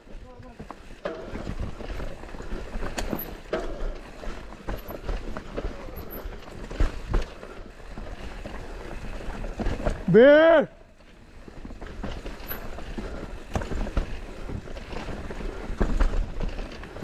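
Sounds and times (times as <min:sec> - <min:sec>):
bike knocking and rattling: 0:00.0 - 0:17.0
bike tyres on dirt trail: 0:00.0 - 0:17.0.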